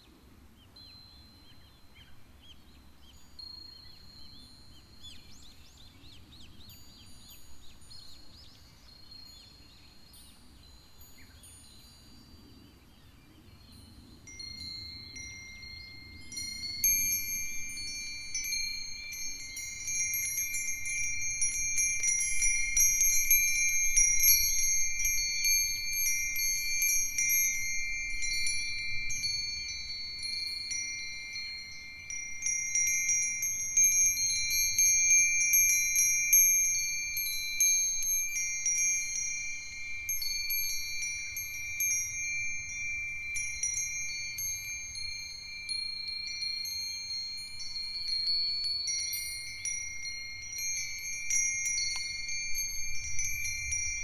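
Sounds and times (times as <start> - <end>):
wind chimes ringing: 3.1 - 12.6, 13.6 - 54.0.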